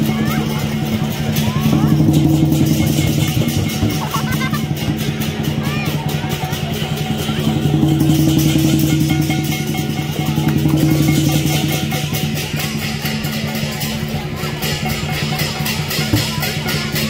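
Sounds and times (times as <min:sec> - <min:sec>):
drum cymbals and gong beat: 0:00.0 - 0:17.0.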